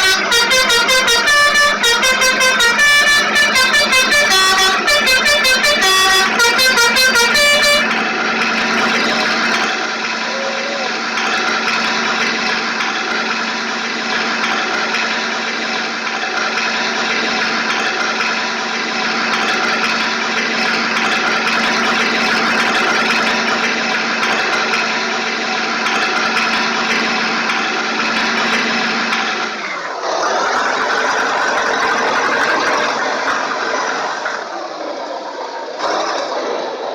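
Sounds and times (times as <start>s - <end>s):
vehicle engine idling: 0.0s - 34.7s.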